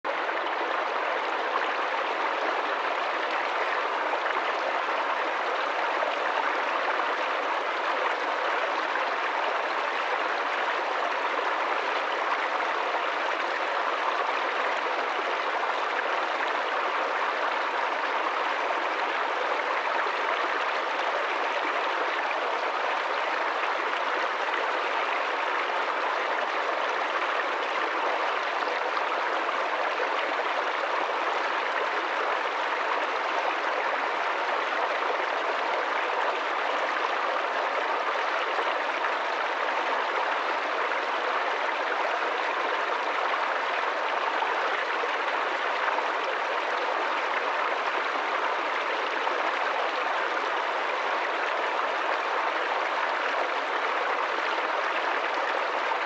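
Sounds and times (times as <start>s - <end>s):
stream pouring over rocks: 0.0s - 56.0s.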